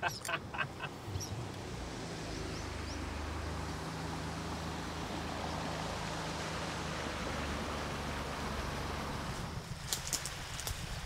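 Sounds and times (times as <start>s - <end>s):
boat motor humming: 0.0s - 9.7s
water hiss: 1.9s - 11.0s.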